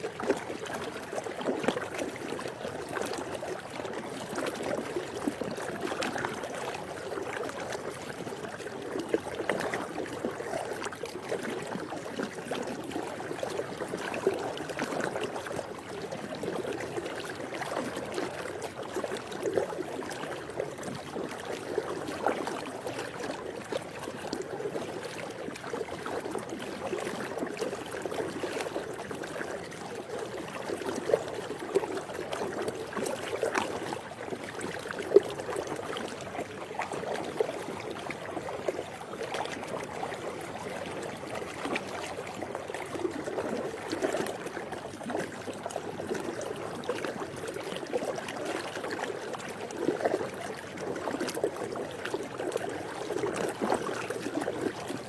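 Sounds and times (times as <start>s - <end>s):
pool water splashing and trickling: 0.0s - 55.0s.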